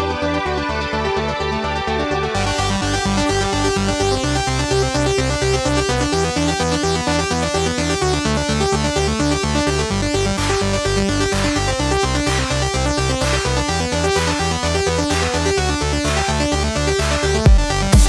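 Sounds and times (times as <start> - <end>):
electronic dance music: 0.0 - 18.0.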